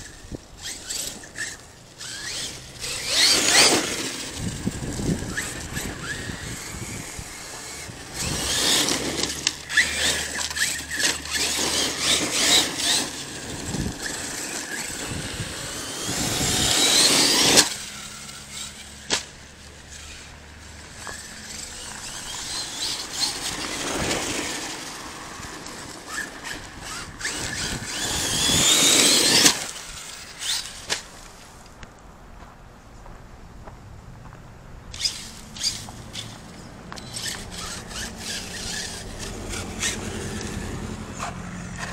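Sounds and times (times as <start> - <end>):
rc truck motor whining: 0.0 - 31.8, 34.9 - 41.9
tyres crunching on gravel: 0.6 - 34.4.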